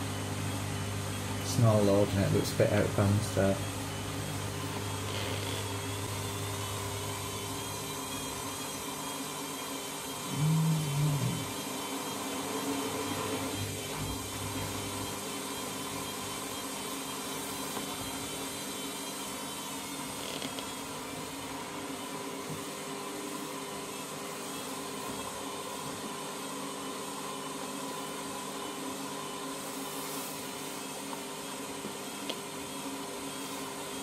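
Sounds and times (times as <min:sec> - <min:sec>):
washing machine motor whirring: 0:00.0 - 0:34.0.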